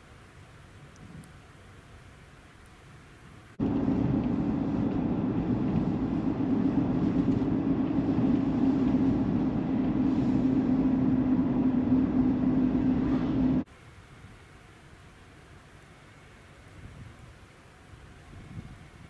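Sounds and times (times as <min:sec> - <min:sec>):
vehicle driving on road: 0:00.0 - 0:19.0.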